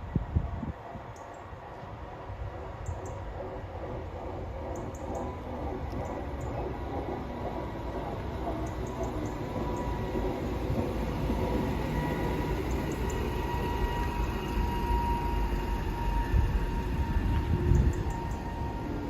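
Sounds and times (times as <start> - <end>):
railcar rumbling: 0.0 - 19.0.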